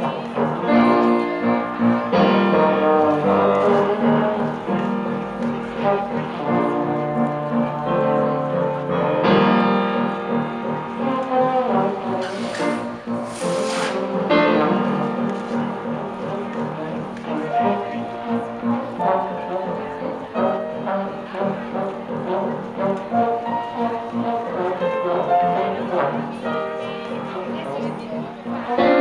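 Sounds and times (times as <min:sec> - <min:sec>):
brass instruments playing chords: 0:00.0 - 0:29.0.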